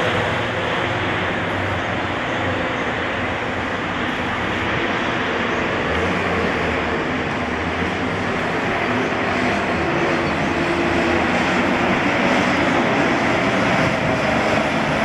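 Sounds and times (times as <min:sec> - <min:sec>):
bus and cars driving by: 0:00.0 - 0:15.0
low engine hum: 0:00.0 - 0:15.0
road traffic noise: 0:00.0 - 0:15.0.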